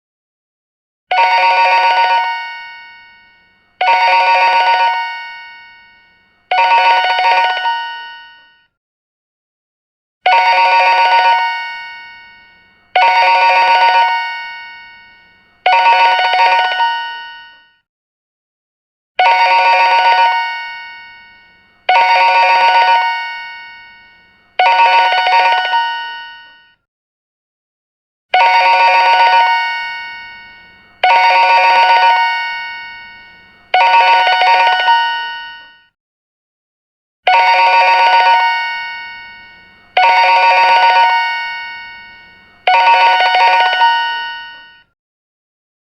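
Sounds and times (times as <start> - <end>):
telephone ringing trill: 1.1 - 8.7, 10.3 - 17.8, 19.2 - 26.8, 28.4 - 36.0, 37.3 - 45.0.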